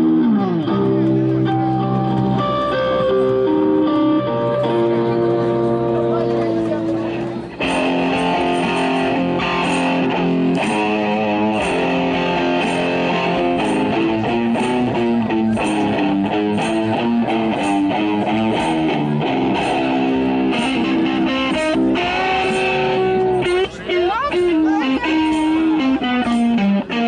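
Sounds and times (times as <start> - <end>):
bluesy electric guitar melody: 0.0 - 27.0.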